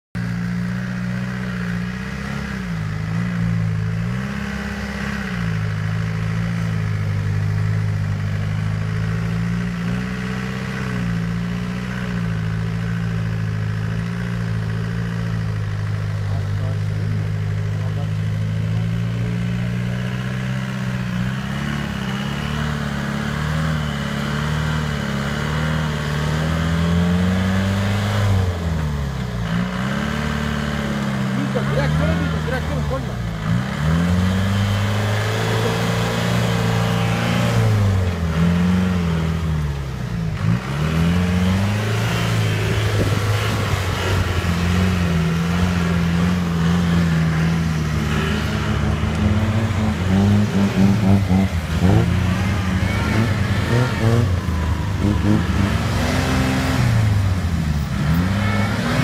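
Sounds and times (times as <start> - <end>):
truck engine revving under load: 0.2 - 59.0.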